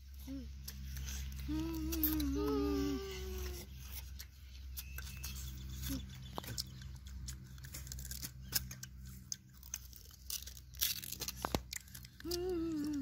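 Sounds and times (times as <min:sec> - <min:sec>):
sugarcane tearing and crunching: 0:00.1 - 0:13.0.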